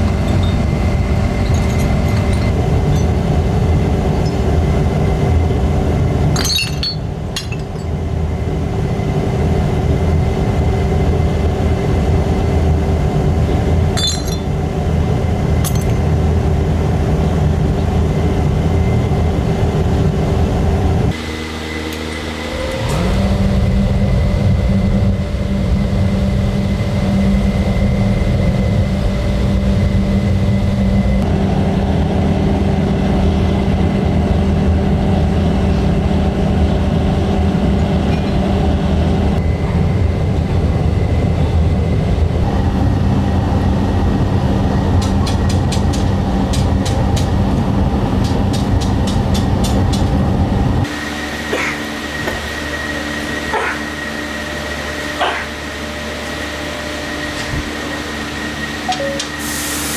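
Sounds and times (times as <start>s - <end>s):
heavy machinery rumble and hum: 0.0s - 59.9s.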